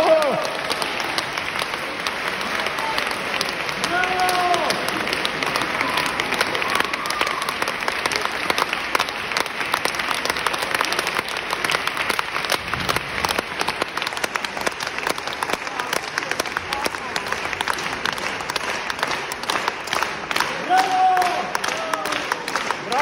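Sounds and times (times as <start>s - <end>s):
large audience applauding: 0.0s - 23.0s
sharp close claps: 0.0s - 23.0s.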